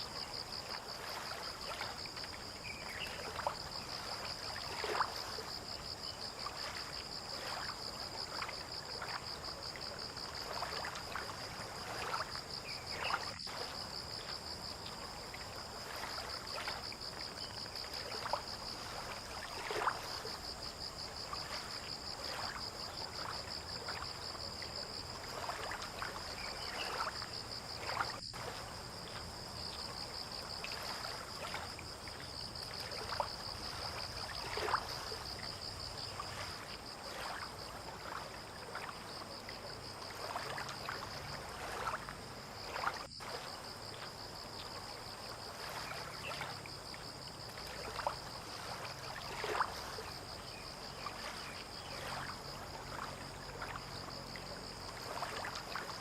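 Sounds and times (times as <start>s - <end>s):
insects chirring: 0.0s - 56.0s
water lapping: 0.0s - 56.0s.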